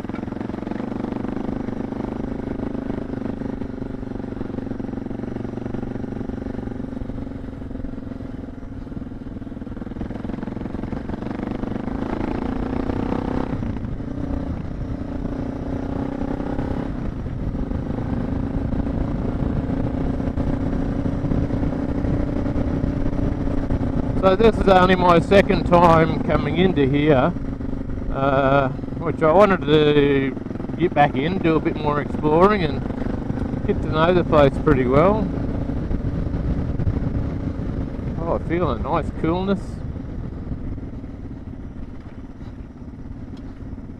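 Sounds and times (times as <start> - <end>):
motorcycle engine running: 0.0 - 43.9
wind and road rumble: 0.0 - 43.9.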